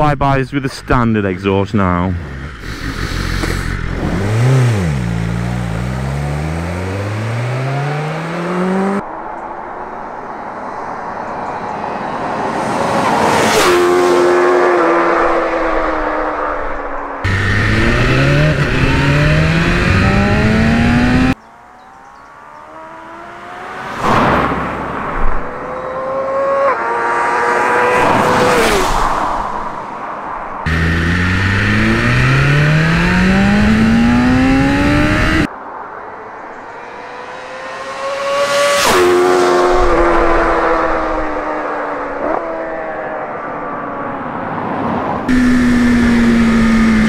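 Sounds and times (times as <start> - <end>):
motorcycle engine accelerating: 1.8 - 9.0, 13.2 - 29.7, 30.6 - 35.5, 36.4 - 44.2, 45.2 - 47.0
motorcycle passing by: 2.2 - 9.0, 10.7 - 47.0.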